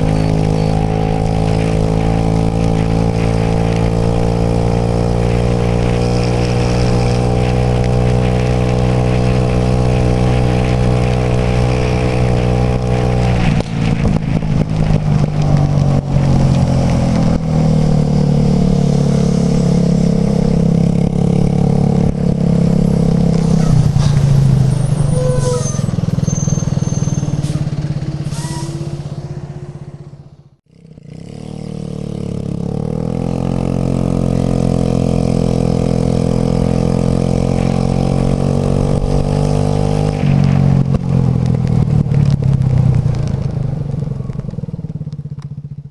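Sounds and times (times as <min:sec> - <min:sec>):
wind noise: 0:00.0 - 0:29.2, 0:35.6 - 0:44.6
engine crackles: 0:00.0 - 0:45.9.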